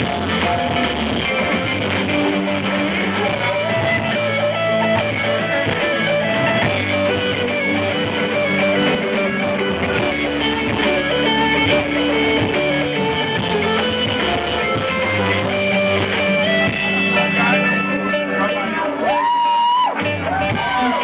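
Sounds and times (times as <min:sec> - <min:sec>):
electric guitar melody: 0:00.0 - 0:21.0
live rock band playing: 0:00.0 - 0:21.0.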